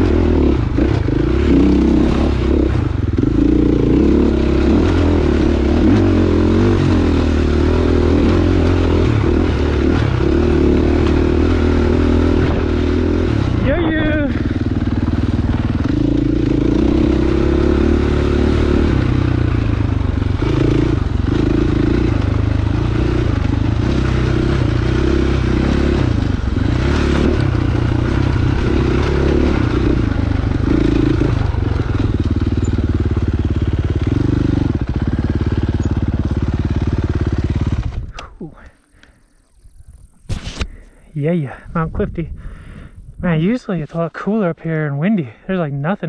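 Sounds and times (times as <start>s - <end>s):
dirt bike engine revving: 0.0s - 38.3s.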